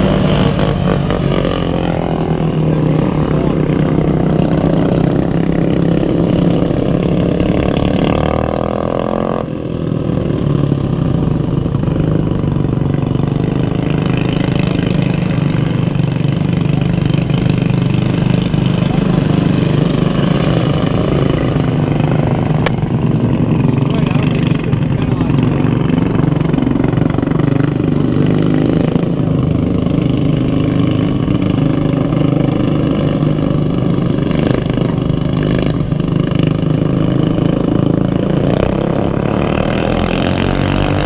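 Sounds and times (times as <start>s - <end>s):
racing lawnmower engines: 0.0s - 41.0s.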